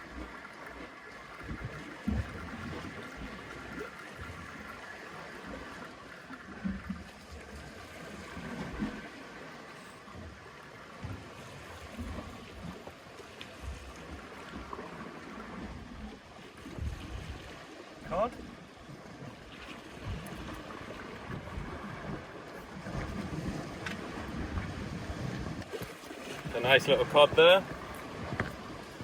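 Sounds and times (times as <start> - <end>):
sea water lapping around rocks: 0.0 - 29.0.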